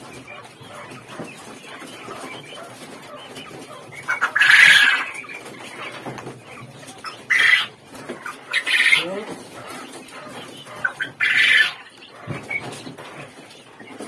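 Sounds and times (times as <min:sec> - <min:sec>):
quail calling: 0:00.0 - 0:14.0.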